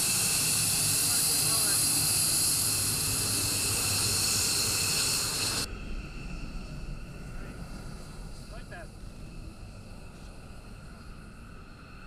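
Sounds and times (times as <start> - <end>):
jet engine whine and hiss: 0.0 - 12.0.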